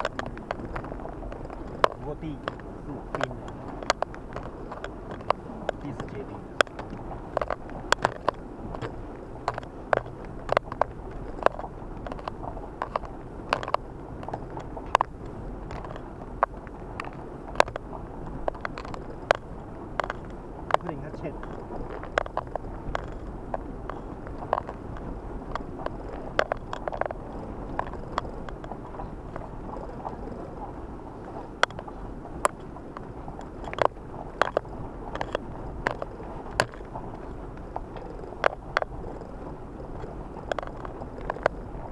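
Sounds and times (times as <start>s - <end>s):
sharp clicks and crackles: 0.0s - 30.6s, 31.2s - 41.9s
engine and tyres rumbling: 0.0s - 41.9s.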